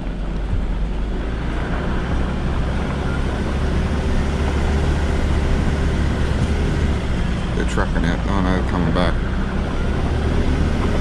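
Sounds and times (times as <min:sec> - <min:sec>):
low engine drone: 0:00.0 - 0:11.0
tyre and road rumble: 0:00.0 - 0:11.0.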